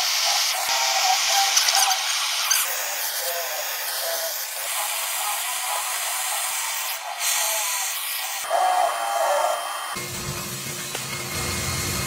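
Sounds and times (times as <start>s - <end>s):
soldering torch hissing: 0.0s - 10.0s.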